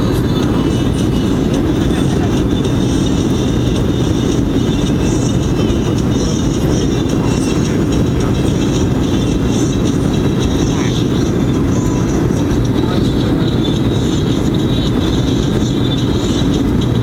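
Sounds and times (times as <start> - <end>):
airflow over fuselage: 0.0 - 17.0
engine rumble in cabin: 0.0 - 17.0.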